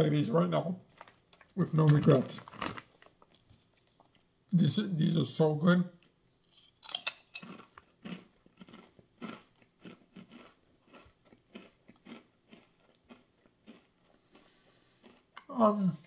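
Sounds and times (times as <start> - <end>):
person chewing crisp chips: 0.9 - 4.3, 6.0 - 15.7.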